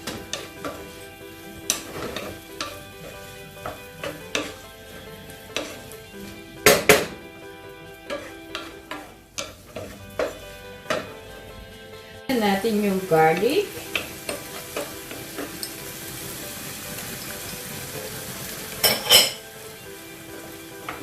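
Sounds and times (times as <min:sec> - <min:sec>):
food sizzling in a frying pan: 0:00.0 - 0:21.0
utensil scraping a pan: 0:00.0 - 0:21.0.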